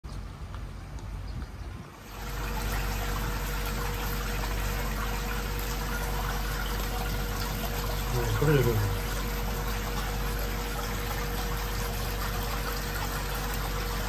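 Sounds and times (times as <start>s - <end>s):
water pump humming: 1.8s - 14.0s
running water rushing: 2.0s - 14.0s.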